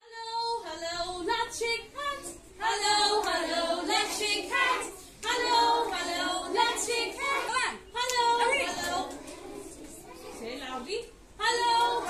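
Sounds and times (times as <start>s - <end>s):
children singing in unison: 0.1s - 10.2s, 11.5s - 12.0s.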